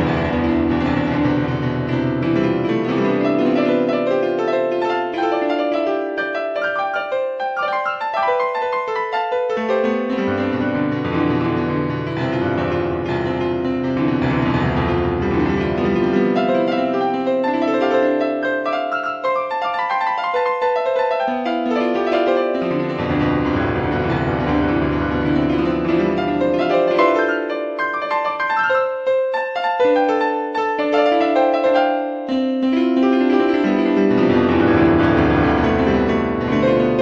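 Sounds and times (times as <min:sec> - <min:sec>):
slow piano music: 0:00.0 - 0:37.0.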